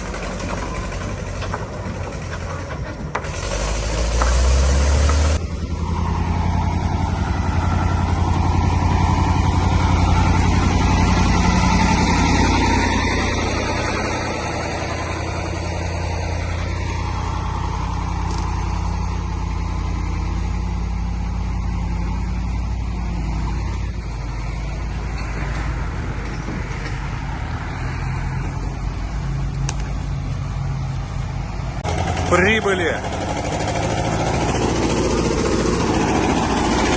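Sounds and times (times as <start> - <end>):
vehicle engine droning: 0.0 - 36.9.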